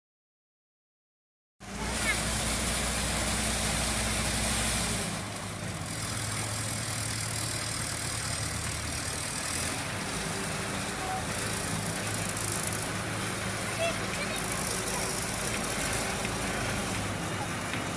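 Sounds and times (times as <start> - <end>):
diesel engine droning: 1.6 - 17.9.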